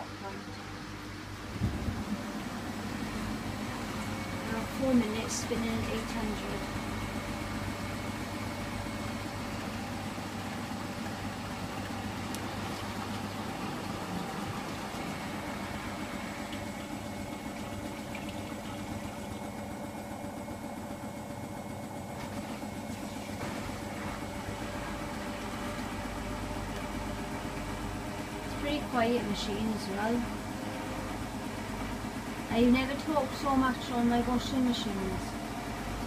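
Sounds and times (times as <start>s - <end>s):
washing machine hum: 0.0s - 36.0s.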